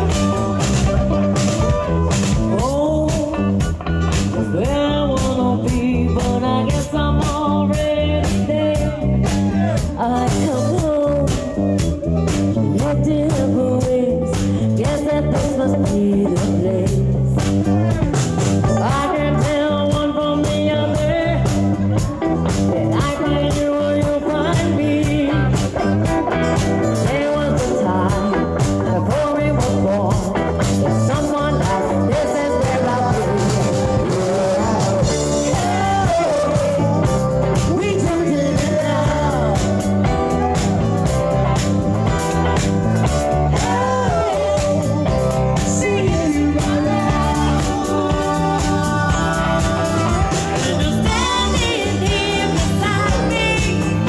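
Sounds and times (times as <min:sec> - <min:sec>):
drums: 0:00.0 - 0:54.0
electric guitar: 0:00.0 - 0:54.0
woman singing lead: 0:00.0 - 0:54.0.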